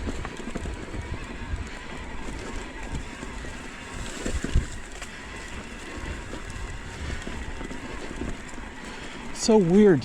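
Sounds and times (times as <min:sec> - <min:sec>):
bike knocks and rattles: 0:00.0 - 0:10.0
tyre and wind noise: 0:00.0 - 0:10.0.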